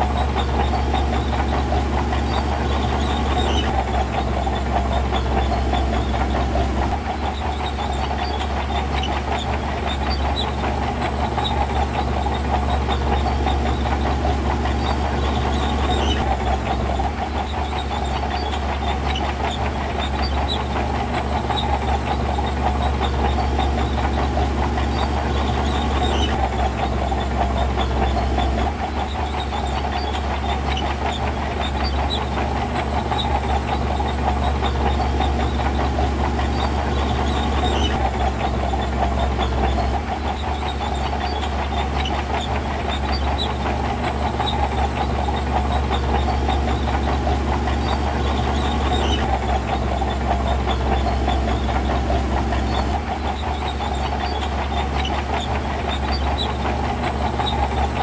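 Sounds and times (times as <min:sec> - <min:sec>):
dense rattling clatter: 0:00.0 - 0:58.0
diesel engine running: 0:00.0 - 0:58.0.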